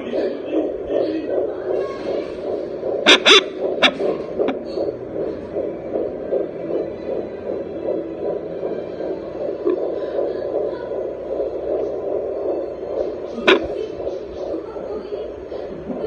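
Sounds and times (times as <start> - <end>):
fetal heartbeat through doppler: 0.0 - 16.0
steady hum: 0.0 - 16.0.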